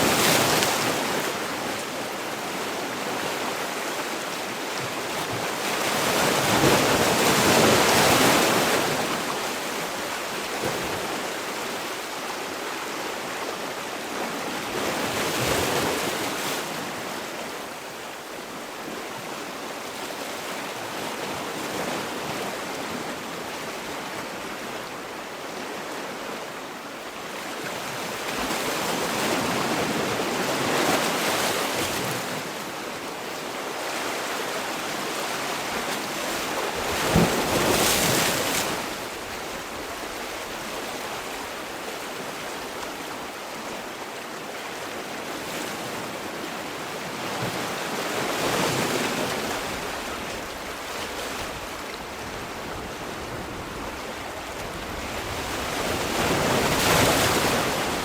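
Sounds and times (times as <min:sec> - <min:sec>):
sea waves breaking ashore: 0:00.0 - 0:26.7, 0:27.4 - 0:58.0.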